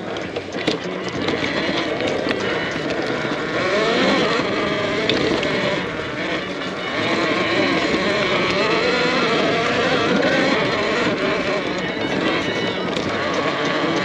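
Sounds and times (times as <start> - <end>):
vehicle motor under load: 0.0 - 14.0.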